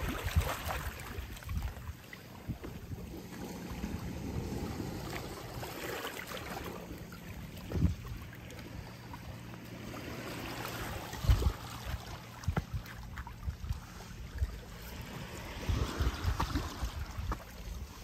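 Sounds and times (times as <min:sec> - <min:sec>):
waves lapping on rocks: 0:00.0 - 0:18.0.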